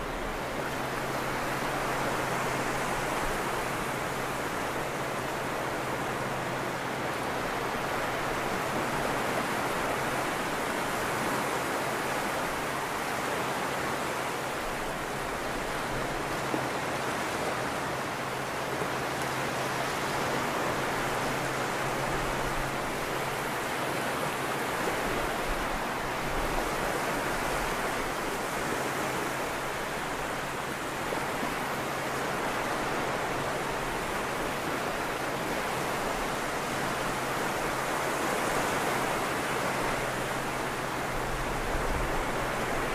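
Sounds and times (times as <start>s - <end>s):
waves washing on beach: 0.0s - 42.9s.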